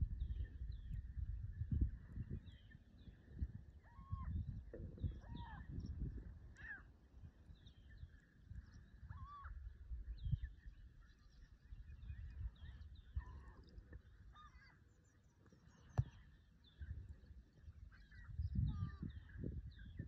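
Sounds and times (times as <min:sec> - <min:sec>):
faint bird calls: 0:02.5 - 0:20.0.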